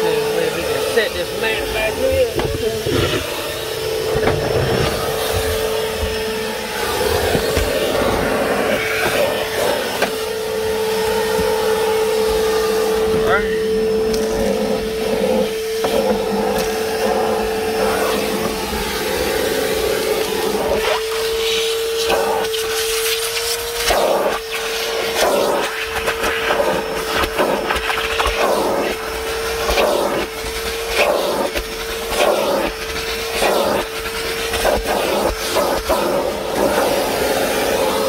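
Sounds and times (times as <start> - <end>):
shop vacuum whining: 0.0 - 38.0.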